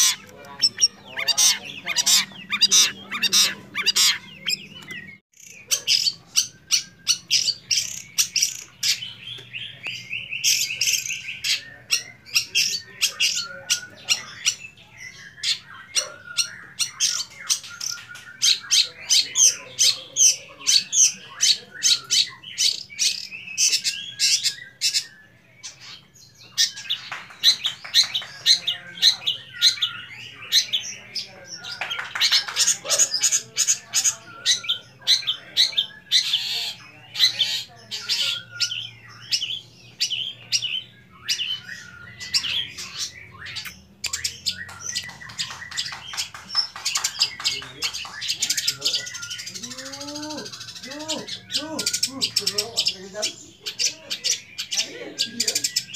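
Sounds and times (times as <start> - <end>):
shrike singing: 0.0 - 55.9.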